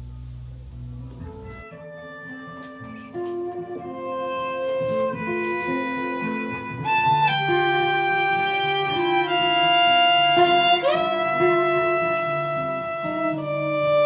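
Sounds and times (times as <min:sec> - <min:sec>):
acoustic guitar notes: 0:00.0 - 0:14.0
violin bowed notes: 0:00.9 - 0:14.0.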